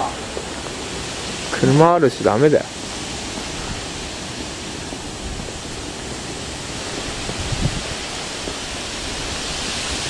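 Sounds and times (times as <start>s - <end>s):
even hiss: 0.0s - 10.0s.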